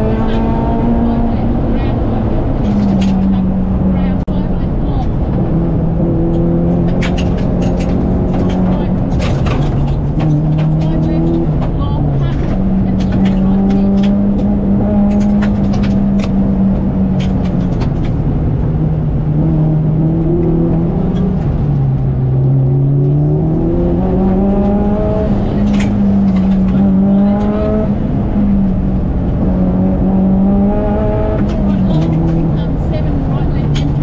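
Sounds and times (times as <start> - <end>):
car engine revving: 0.0 - 34.0
road and tyre noise: 0.0 - 34.0.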